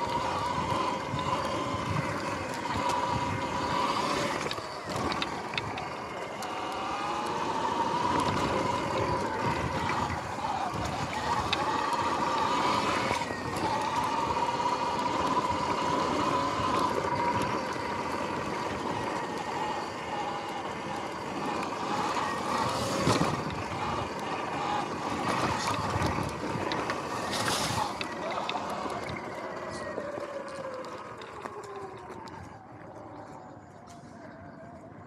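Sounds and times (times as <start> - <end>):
electric motor whining: 0.0 - 35.0
tyre and wind noise: 0.0 - 35.0.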